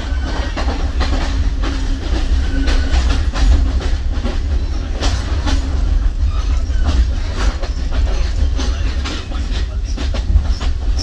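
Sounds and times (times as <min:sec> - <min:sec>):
train rumbling on track: 0:00.0 - 0:11.0
wheels clacking over rail joints: 0:00.0 - 0:11.0.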